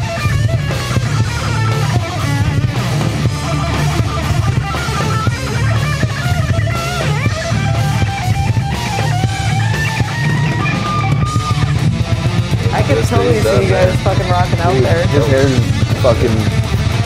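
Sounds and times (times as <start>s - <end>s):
high bending melody line: 0.0s - 17.0s
rock band playing: 0.0s - 17.0s.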